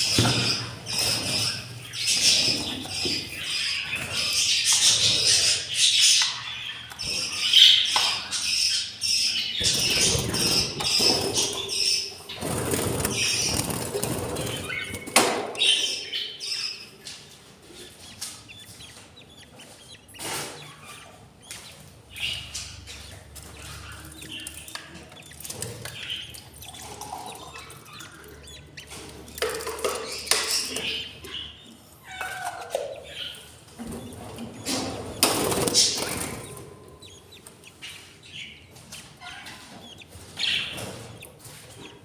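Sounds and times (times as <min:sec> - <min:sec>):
budgerigars chirping: 0:00.0 - 0:42.0.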